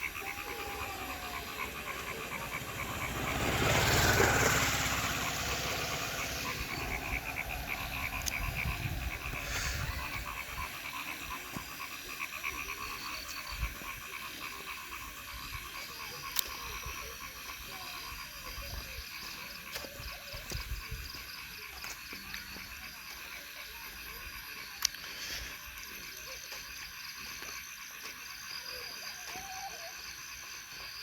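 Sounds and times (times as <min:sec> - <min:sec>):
frogs croaking in chorus: 0:00.0 - 0:31.0.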